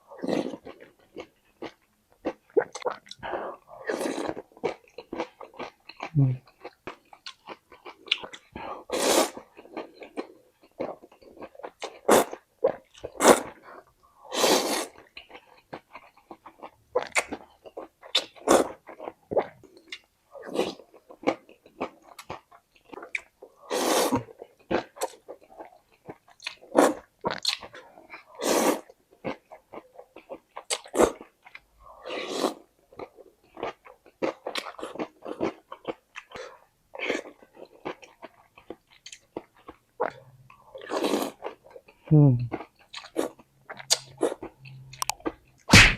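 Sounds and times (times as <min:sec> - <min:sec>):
crunching and chewing food: 0:00.0 - 0:45.8.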